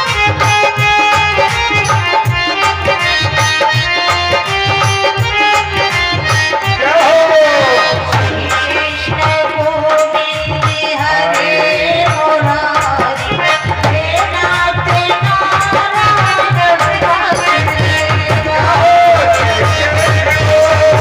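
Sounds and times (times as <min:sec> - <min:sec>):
tabla rhythm: 0:00.0 - 0:21.0.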